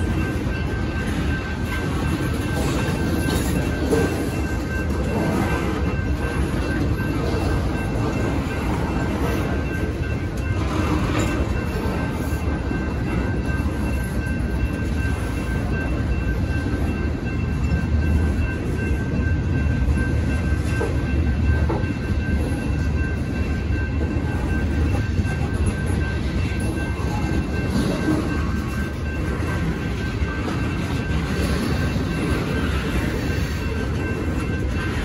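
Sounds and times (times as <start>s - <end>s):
train cars rumbling and clattering: 0.0s - 35.0s.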